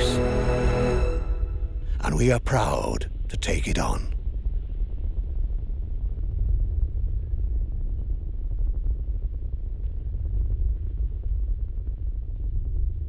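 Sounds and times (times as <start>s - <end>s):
deep cinematic rumble: 0.0s - 13.0s.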